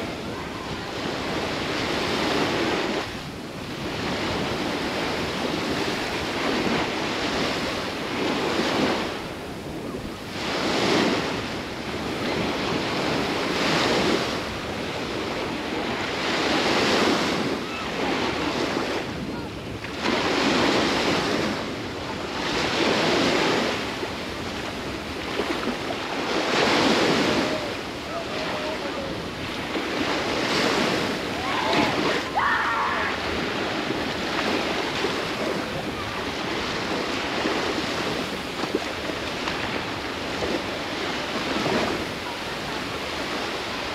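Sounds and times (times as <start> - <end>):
steady wind: 0.0 - 43.9
surf breaking on a beach: 0.0 - 43.9.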